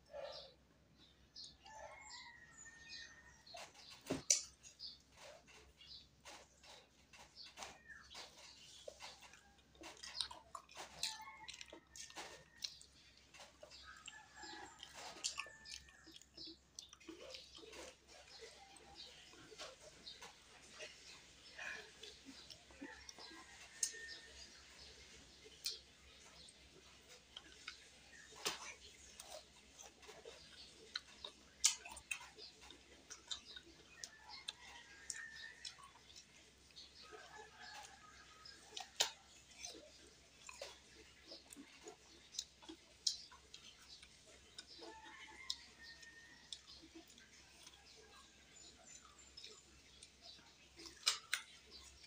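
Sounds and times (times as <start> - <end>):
person chewing banana: 3.6 - 52.0.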